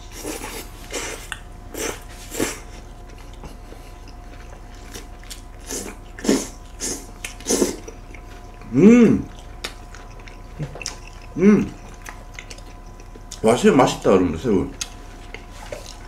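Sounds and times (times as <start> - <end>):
people biting and chewing: 0.0 - 13.4.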